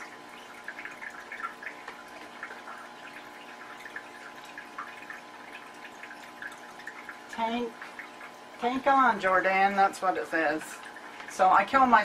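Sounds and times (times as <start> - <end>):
aquarium filter humming: 0.0 - 12.0
water trickling and dripping: 0.0 - 12.0.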